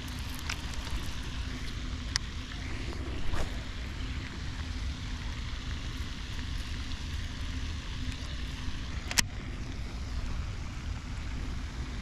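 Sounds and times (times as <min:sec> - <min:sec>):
faint hum: 0:00.0 - 0:12.0
low outdoor rumble: 0:00.0 - 0:12.0.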